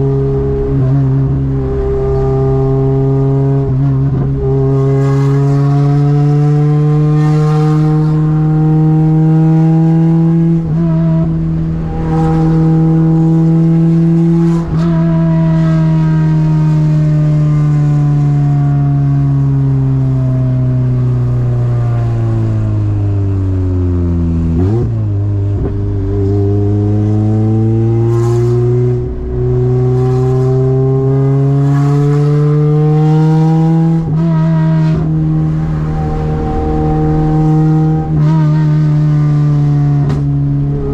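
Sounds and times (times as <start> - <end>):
car engine droning: 0.0 - 40.9.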